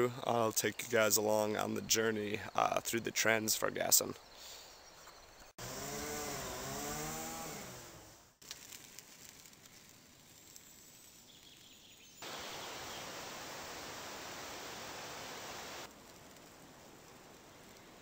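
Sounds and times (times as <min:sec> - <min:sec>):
faint outdoor background: 0:00.0 - 0:18.0.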